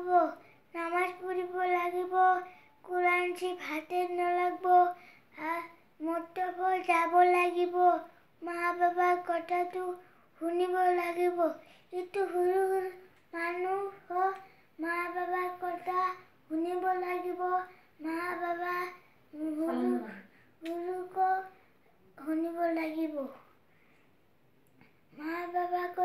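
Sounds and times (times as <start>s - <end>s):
boy chanting in sing-song voice: 0.0s - 21.6s, 22.2s - 23.4s, 25.1s - 26.0s.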